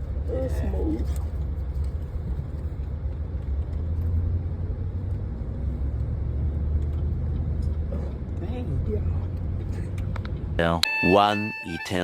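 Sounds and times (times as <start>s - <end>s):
vehicle cabin road rumble: 0.0s - 10.9s.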